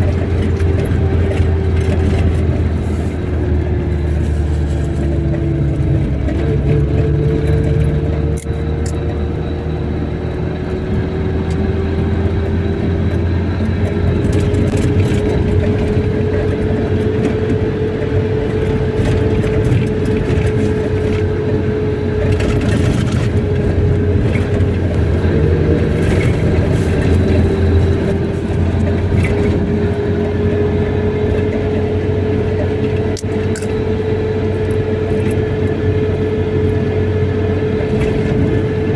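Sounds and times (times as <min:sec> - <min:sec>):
car engine and road rumble: 0:00.0 - 0:38.9
whine drifting in pitch: 0:00.0 - 0:38.9.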